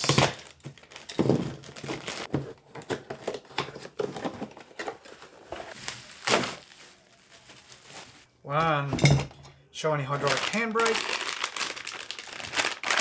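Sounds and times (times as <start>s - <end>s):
plastic and bubble wrap crinkling: 0.0s - 2.6s, 3.2s - 8.4s, 10.1s - 13.0s.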